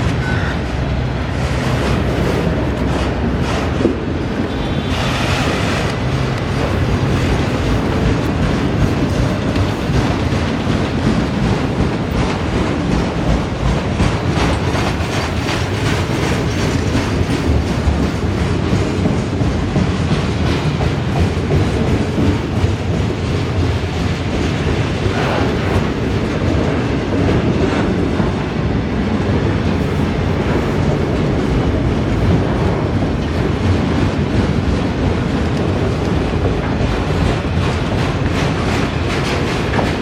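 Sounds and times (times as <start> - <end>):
train rumbling past: 0.0 - 40.0
wheels clicking over rail joints: 0.0 - 40.0.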